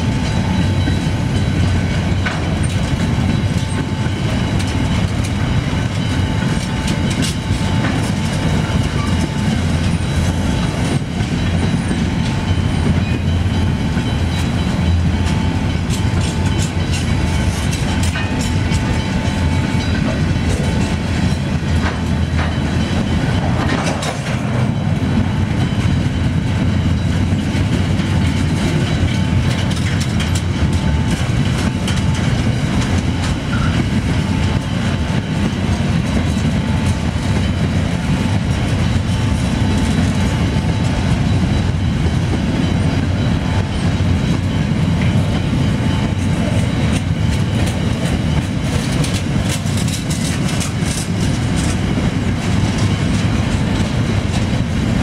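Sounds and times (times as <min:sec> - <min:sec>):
low train rumble: 0:00.0 - 0:55.0
train wheels clacking: 0:00.0 - 0:55.0.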